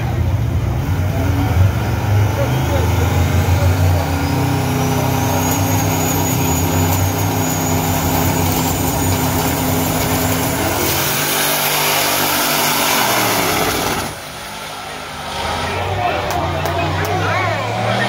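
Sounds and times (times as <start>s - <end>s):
drag car engines revving: 0.0s - 18.0s.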